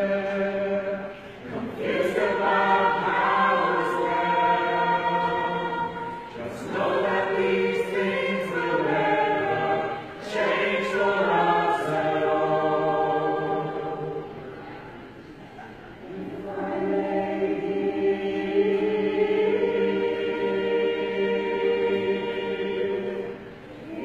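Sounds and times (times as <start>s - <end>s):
choir singing in harmony: 0.0s - 24.0s.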